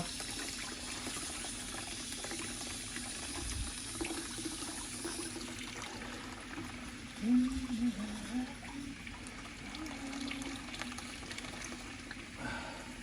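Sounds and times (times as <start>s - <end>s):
water running through radiator: 0.0s - 13.0s.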